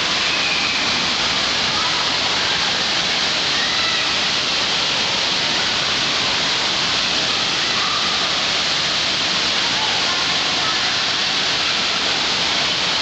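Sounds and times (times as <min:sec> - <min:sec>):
water spraying onto shallow water: 0:00.0 - 0:13.0.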